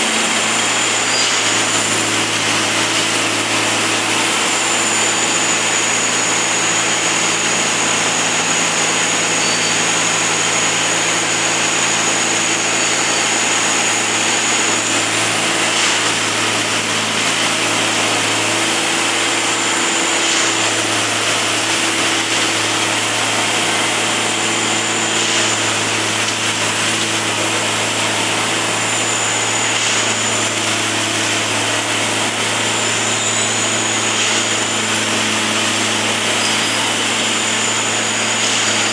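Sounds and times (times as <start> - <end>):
diesel engine and hydraulic drone: 0.0 - 38.9
high machine whine: 0.0 - 38.9.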